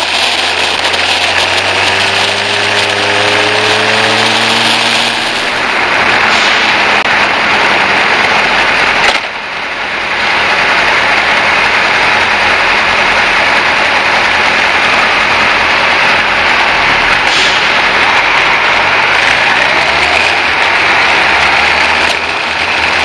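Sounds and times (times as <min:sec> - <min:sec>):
motorcycle engine running: 0:00.0 - 0:06.2, 0:06.8 - 0:23.0
road noise: 0:00.0 - 0:23.0.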